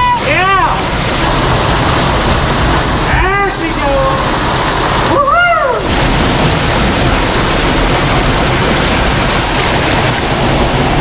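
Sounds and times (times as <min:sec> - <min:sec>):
creek water rushing through culvert: 0:00.0 - 0:11.0.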